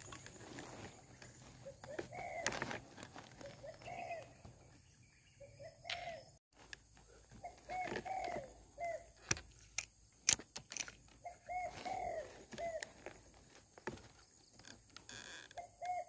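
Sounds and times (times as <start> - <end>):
bird calling: 0.0 - 10.4, 11.0 - 16.0.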